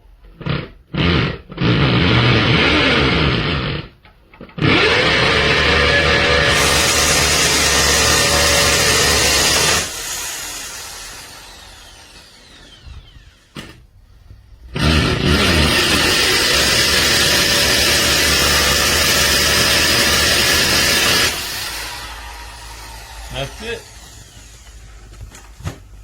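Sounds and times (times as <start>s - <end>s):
hammer drill motor whining: 0.4s - 3.9s, 4.6s - 13.8s, 14.6s - 25.3s.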